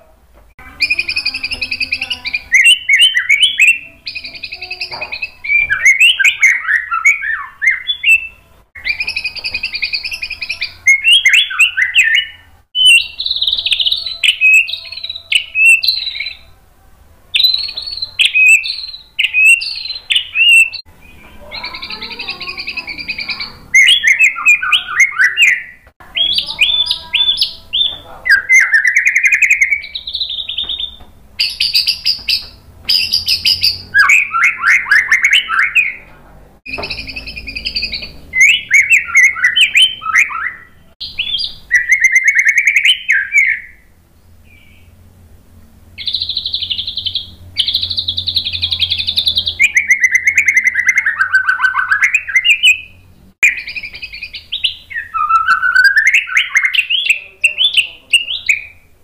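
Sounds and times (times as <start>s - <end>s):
songbird singing varied phrases: 0.6s - 16.6s, 17.3s - 36.1s, 36.7s - 45.1s, 46.0s - 59.0s.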